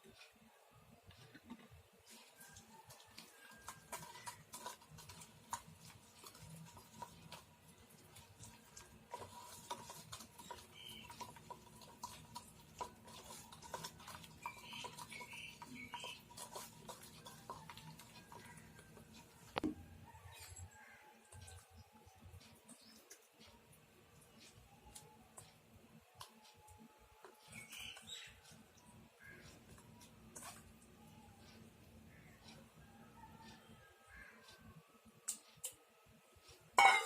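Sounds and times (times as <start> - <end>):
spoon stirring wet marinade: 1.4 - 35.9.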